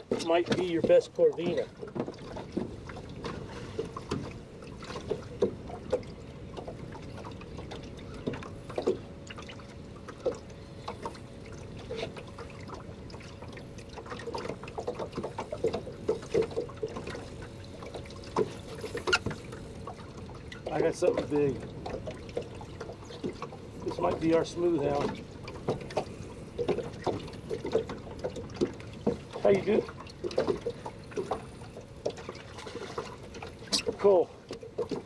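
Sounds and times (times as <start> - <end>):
faint steady hum: 0.0 - 35.0
water splashing around boat: 0.0 - 35.0.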